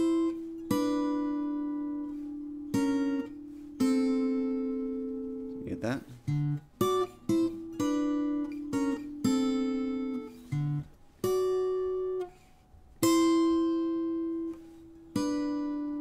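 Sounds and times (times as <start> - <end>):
acoustic guitar playing blues: 0.0 - 16.0.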